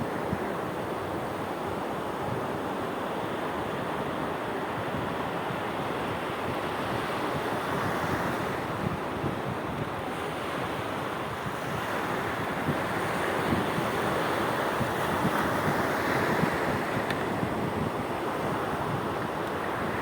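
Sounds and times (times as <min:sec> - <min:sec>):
sea waves washing ashore: 0:00.0 - 0:20.0
wind rumbling on microphone: 0:00.0 - 0:20.0.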